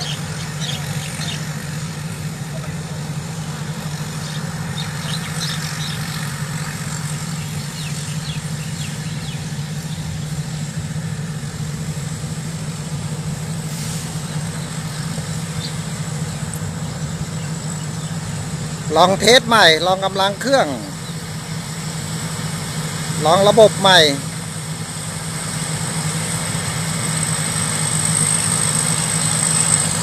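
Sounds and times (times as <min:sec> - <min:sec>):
diesel engine humming: 0:00.0 - 0:30.0.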